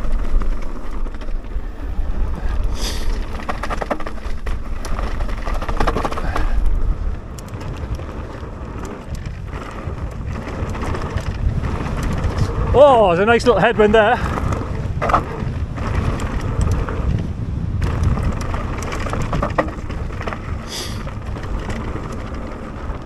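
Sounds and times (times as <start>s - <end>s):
bike clattering over bumps: 0.0s - 23.0s
tyre noise on dirt: 0.0s - 23.0s
wind rumbling on microphone: 0.0s - 23.0s.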